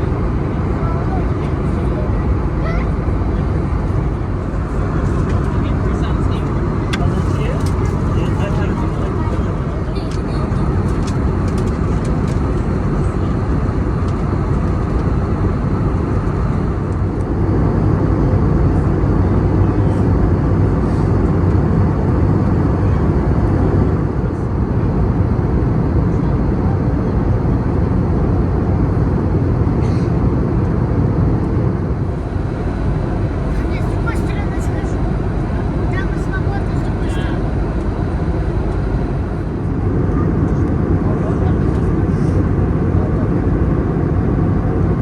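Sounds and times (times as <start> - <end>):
airplane cabin roar: 0.0 - 45.0.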